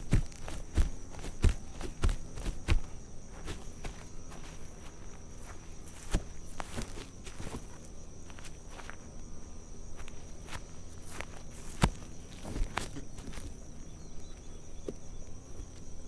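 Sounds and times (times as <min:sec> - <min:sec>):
footsteps on grass: 0:00.0 - 0:13.9.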